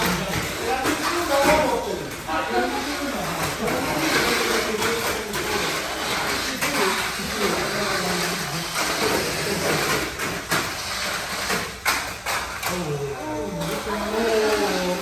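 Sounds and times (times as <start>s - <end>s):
faint voices: 0.0s - 15.0s
toy cars whirring rattle: 0.0s - 15.0s.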